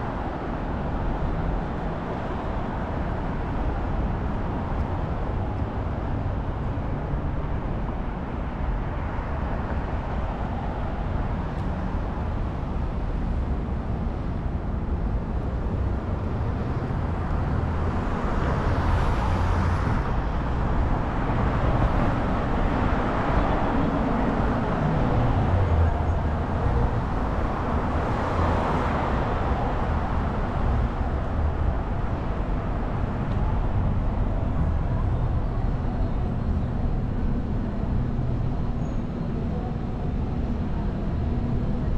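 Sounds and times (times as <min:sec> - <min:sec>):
city street traffic rumble: 0:00.0 - 0:41.9
passing vehicles: 0:00.0 - 0:41.9.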